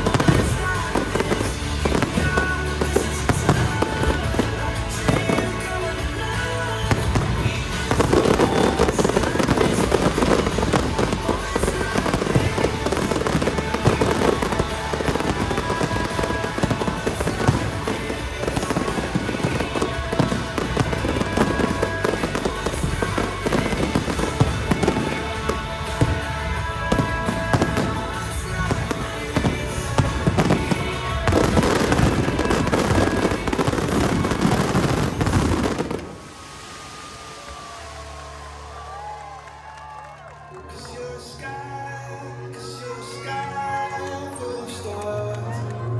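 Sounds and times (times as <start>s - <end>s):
fireworks bursting and crackling: 0.0s - 41.7s
music with singing: 0.0s - 45.9s.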